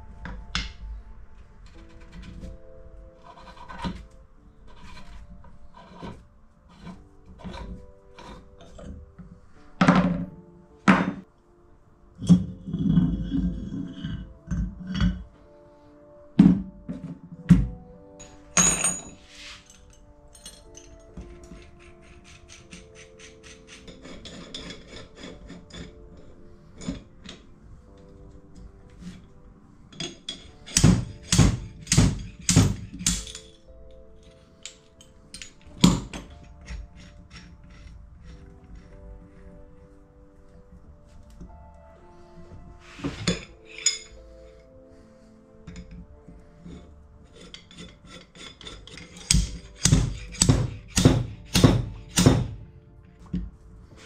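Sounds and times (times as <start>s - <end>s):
background music: 0.0s - 54.0s.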